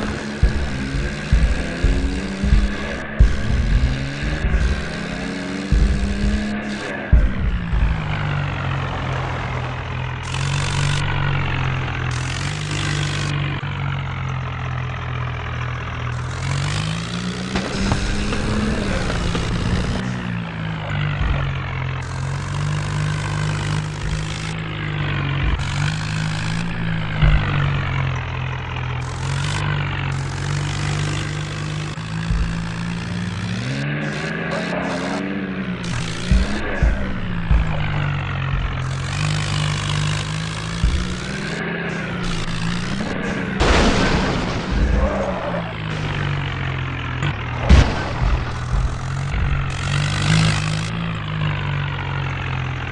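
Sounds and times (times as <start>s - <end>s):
low thumps: 0.0s - 13.6s, 17.4s - 33.8s, 35.7s - 51.2s
tractor diesel engine: 0.0s - 52.9s.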